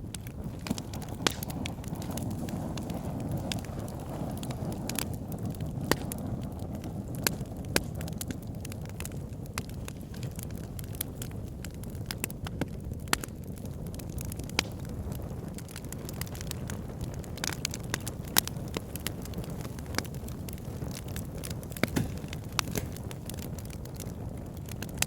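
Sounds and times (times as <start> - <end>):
campfire pops and crackles: 0.0 - 25.0
low rumble of flames: 0.0 - 25.0.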